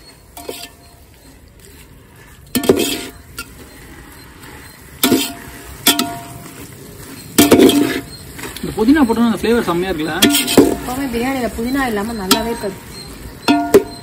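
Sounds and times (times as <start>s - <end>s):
metal utensils clanking on pot: 0.0s - 14.0s.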